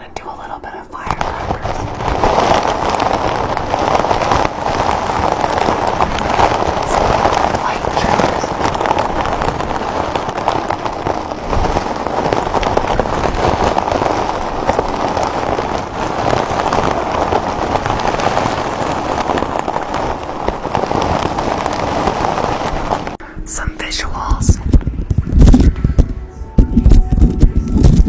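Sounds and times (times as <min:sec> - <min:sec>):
firecrackers crackling: 0:00.3 - 0:28.0.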